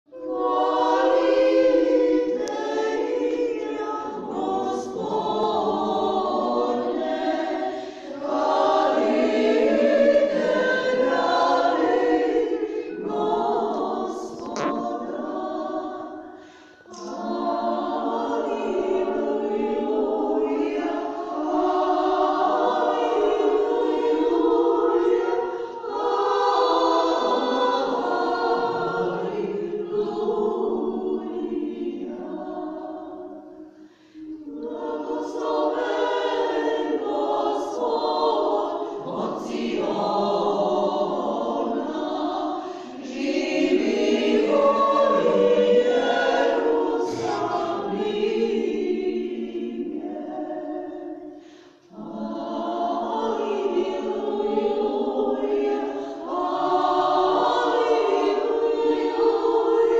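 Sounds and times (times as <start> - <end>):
women's choir singing church chant: 0.0 - 59.9.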